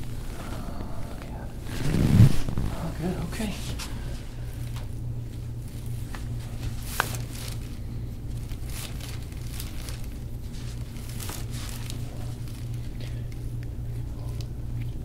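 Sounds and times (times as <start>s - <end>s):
faint crinkling rustles: 0.0s - 15.0s
steady low hum: 0.0s - 15.0s.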